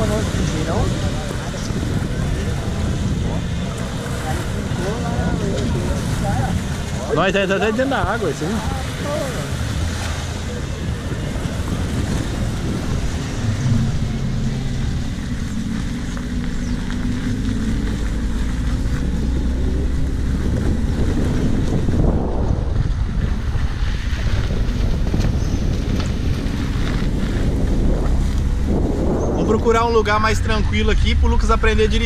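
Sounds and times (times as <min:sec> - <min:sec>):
car engine drone: 0:00.0 - 0:32.0
road and wind noise: 0:00.0 - 0:32.0.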